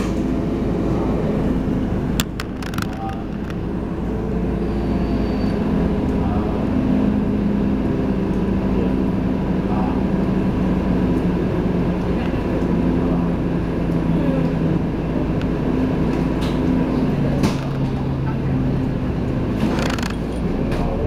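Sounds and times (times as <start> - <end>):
bus diesel engine drone: 0.0 - 21.0.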